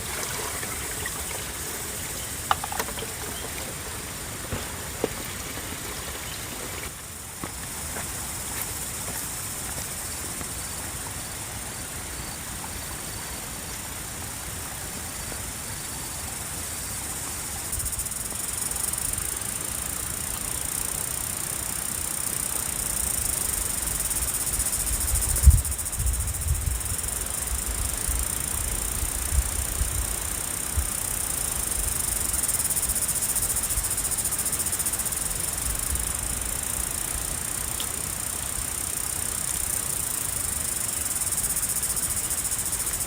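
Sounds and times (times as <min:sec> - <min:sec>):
insects chirring: 0:00.0 - 0:43.0
outdoor background hiss: 0:00.0 - 0:43.0.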